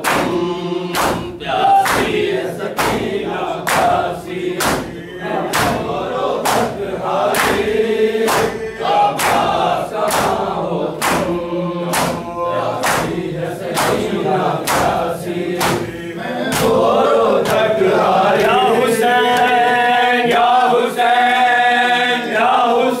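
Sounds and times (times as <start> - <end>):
palms slapping chests: 0.0 - 18.7
men's chorus chanting: 0.0 - 23.0.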